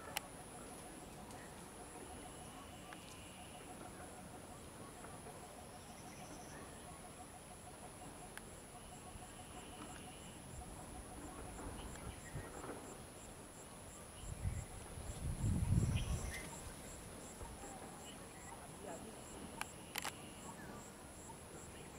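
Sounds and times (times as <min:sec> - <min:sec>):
insects whining and chirping: 0:00.0 - 0:21.9.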